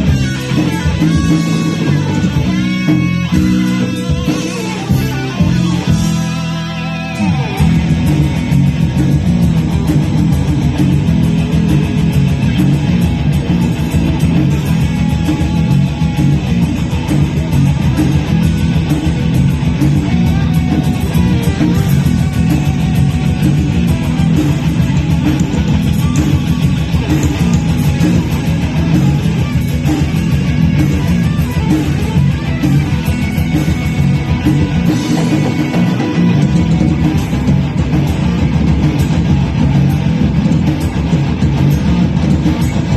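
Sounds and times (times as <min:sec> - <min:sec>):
electric guitar: 0:00.0 - 0:42.9
live rock band playing: 0:00.0 - 0:42.9.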